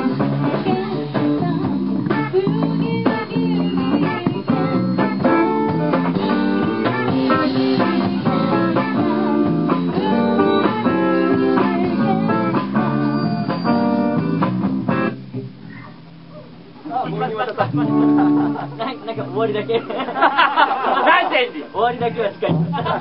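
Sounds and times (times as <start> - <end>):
live band playing blues rock: 0.0 - 15.5, 17.4 - 21.0, 21.8 - 23.0
electric guitars: 0.0 - 21.0.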